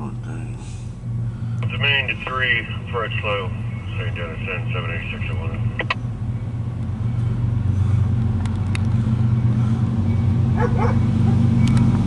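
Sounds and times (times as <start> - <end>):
locomotive diesel engine rumble: 0.0 - 12.0.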